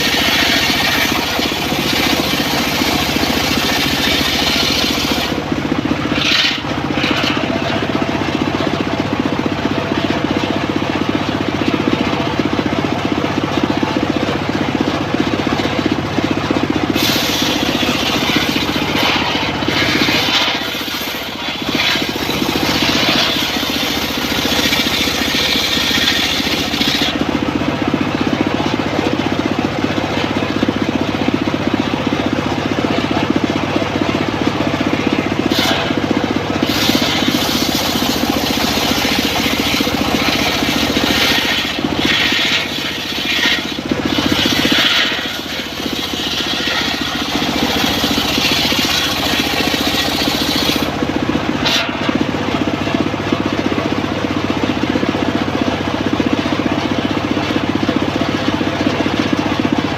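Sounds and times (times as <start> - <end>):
saw blade cutting log: 0.0 - 52.3
sawmill engine running: 0.0 - 59.9.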